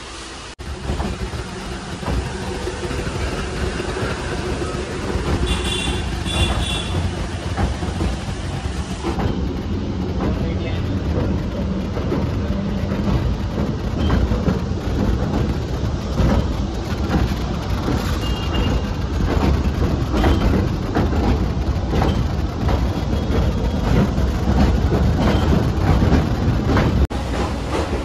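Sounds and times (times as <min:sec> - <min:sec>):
train rumble: 0:00.0 - 0:28.0
wheels clattering over track: 0:00.6 - 0:28.0.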